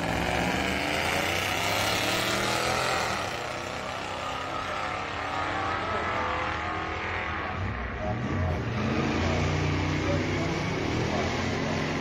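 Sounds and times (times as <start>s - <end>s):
car engines revving hard: 0.0s - 12.0s.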